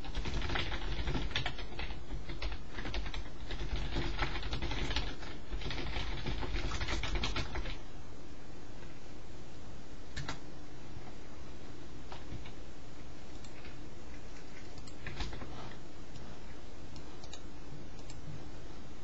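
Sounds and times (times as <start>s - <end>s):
steady background hum and hiss: 0.0s - 19.0s.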